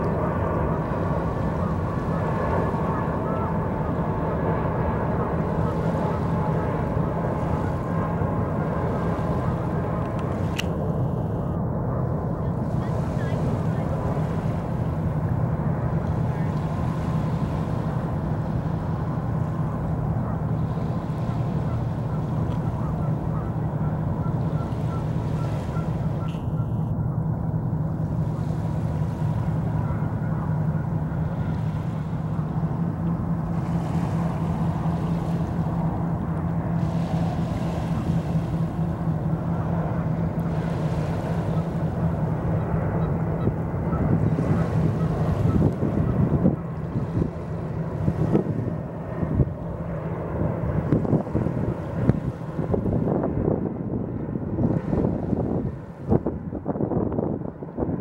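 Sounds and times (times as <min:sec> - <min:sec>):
faint steady whine: 0:00.0 - 0:57.6
constant low hum: 0:00.0 - 0:58.0
steady low rumble: 0:00.0 - 0:58.0.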